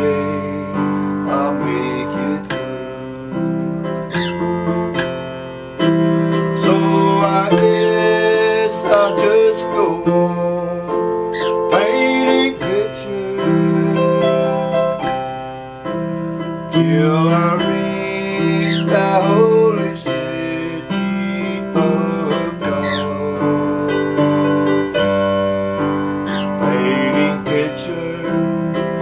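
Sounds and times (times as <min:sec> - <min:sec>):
keyboard playing piano chords: 0:00.0 - 0:29.0.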